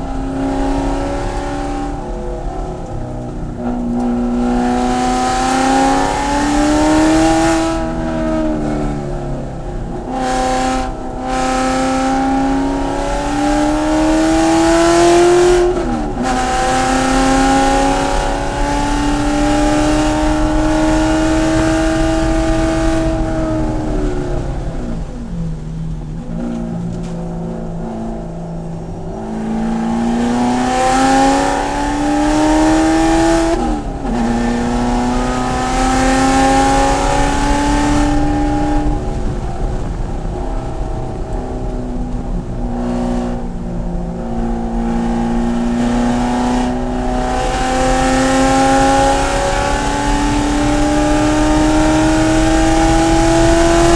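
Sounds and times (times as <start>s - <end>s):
racecar engine at full throttle: 0.0s - 53.9s.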